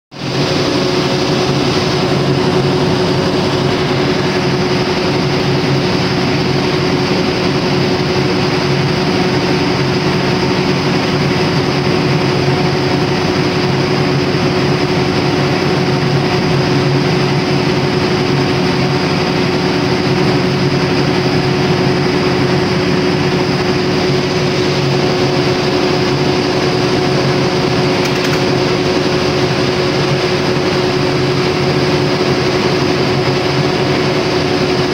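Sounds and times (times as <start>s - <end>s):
diesel generator running: 0.2s - 34.9s.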